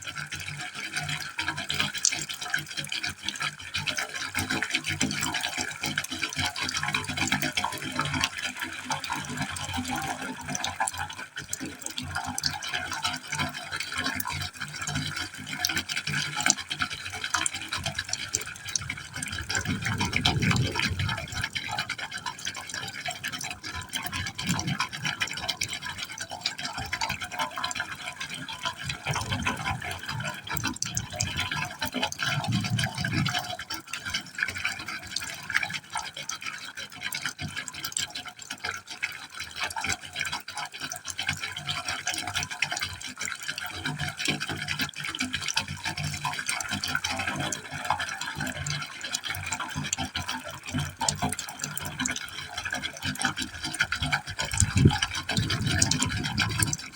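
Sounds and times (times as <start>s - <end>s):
water splashing into pipe: 0.0s - 56.9s.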